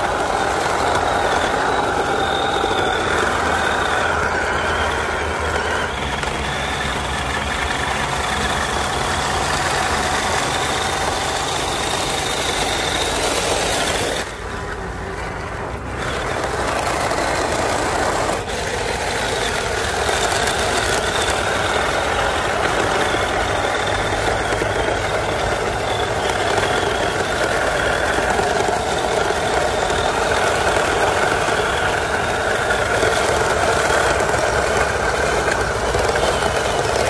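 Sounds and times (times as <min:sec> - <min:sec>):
electric motor whining: 0:00.0 - 0:37.0
tyres churning through mud and water: 0:00.0 - 0:37.0.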